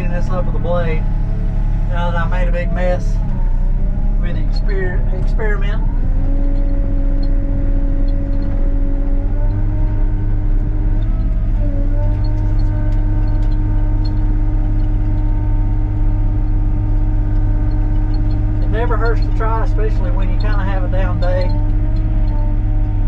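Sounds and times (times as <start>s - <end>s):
excavator engine droning: 0.0s - 23.0s.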